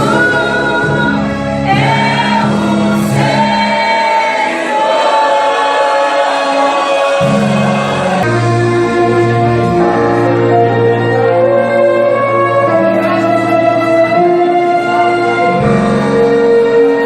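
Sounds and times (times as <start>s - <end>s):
choir singing a gospel hymn: 0.0s - 17.0s
instrumental accompaniment: 0.0s - 17.0s.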